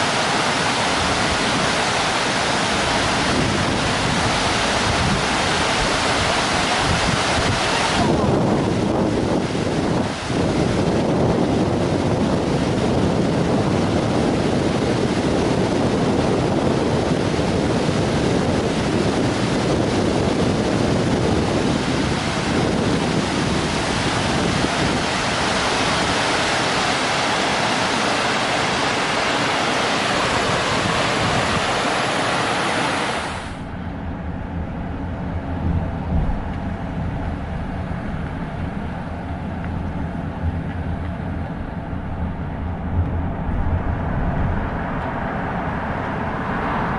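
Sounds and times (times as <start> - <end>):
wind buffeting microphone: 0.0 - 46.9
low hum: 2.0 - 46.9.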